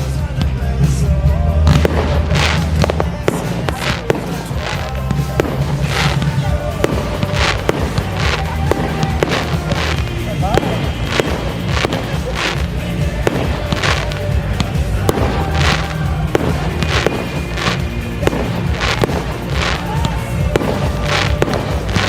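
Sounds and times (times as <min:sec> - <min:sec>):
fireworks bangs and crackling: 0:00.0 - 0:22.0
music with heavy beat: 0:00.0 - 0:22.0.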